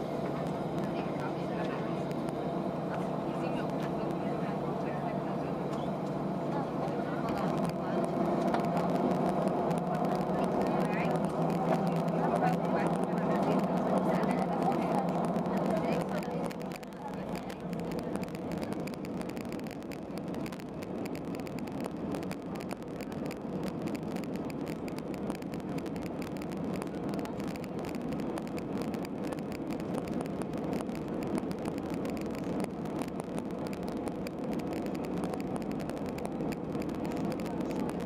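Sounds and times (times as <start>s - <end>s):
jet engines idling: 0.0s - 38.0s.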